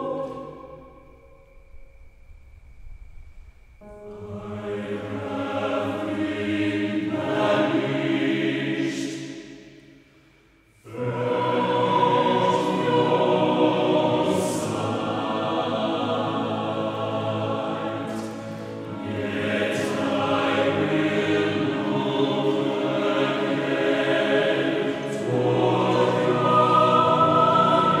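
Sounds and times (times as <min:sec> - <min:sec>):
choir singing in harmony: 0:00.0 - 0:01.6, 0:03.8 - 0:09.8, 0:10.8 - 0:28.0.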